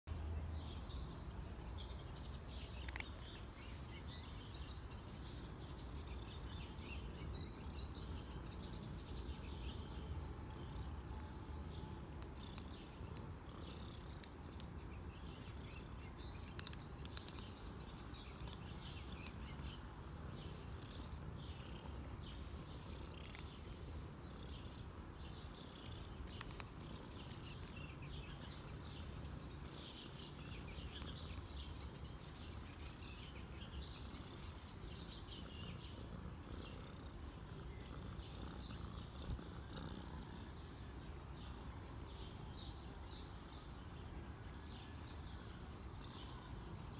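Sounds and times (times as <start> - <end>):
cat purring: 2.5 - 42.5.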